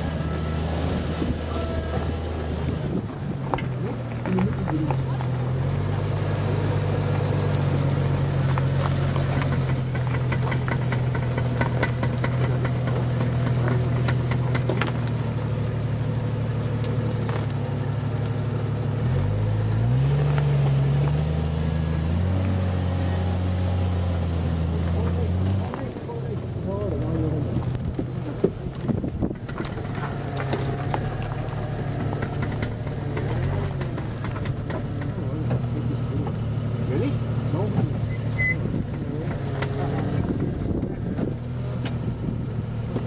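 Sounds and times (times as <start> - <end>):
vehicle engine droning: 0.0 - 43.0.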